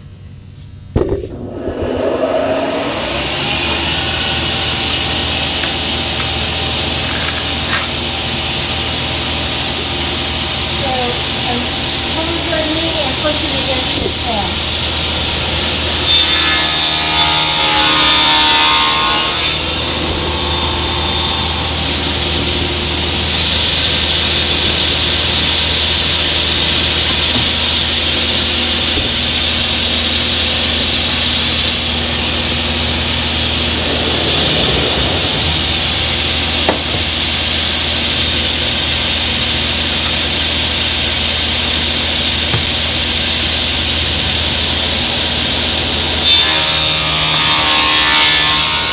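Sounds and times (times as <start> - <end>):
table saw cutting: 1.0 - 48.9.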